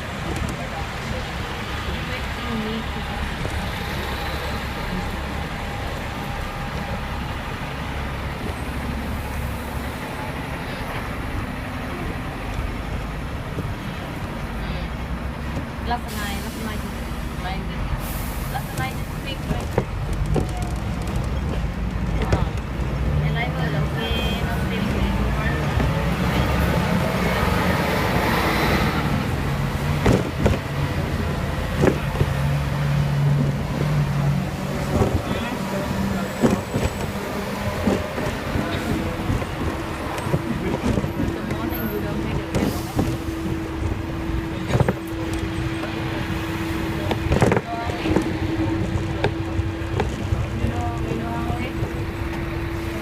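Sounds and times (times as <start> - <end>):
tram rumbling on rails: 0.0 - 53.0.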